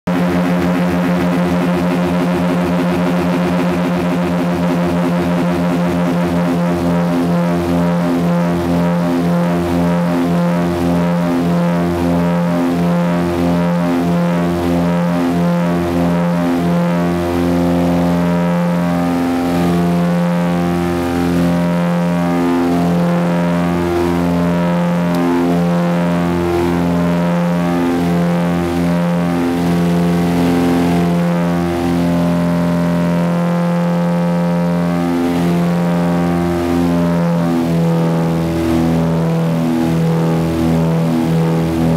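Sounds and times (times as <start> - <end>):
propeller plane engine drone: 0.0 - 41.9.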